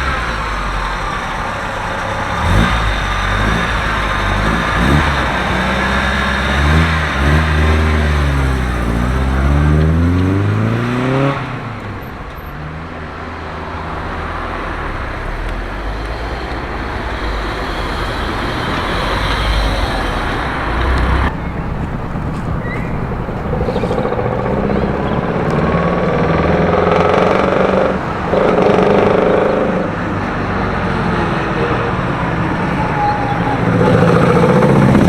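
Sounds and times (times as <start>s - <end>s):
car engine accelerating: 0.0s - 35.0s
road traffic noise: 0.0s - 35.0s.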